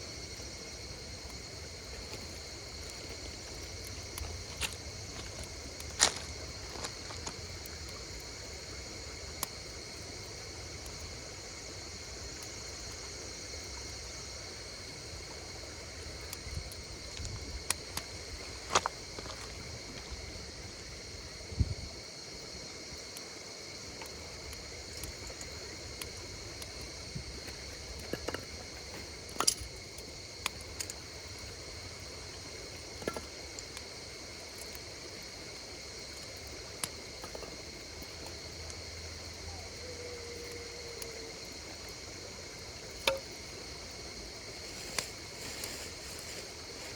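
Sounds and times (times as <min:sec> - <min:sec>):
insects chirring: 0:00.0 - 0:46.9
wood fire crackling: 0:00.0 - 0:46.9.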